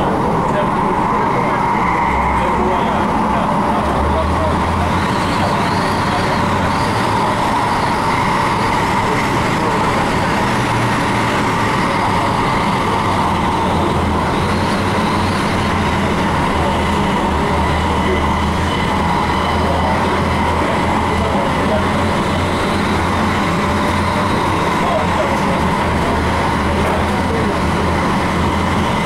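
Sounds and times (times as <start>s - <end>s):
train running on track: 0.0s - 29.0s.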